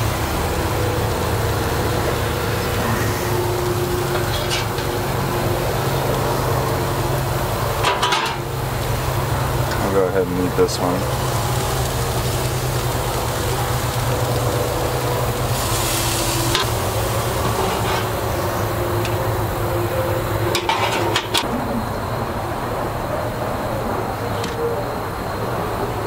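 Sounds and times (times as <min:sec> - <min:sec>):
meat sizzling on a grill: 0:00.0 - 0:21.4.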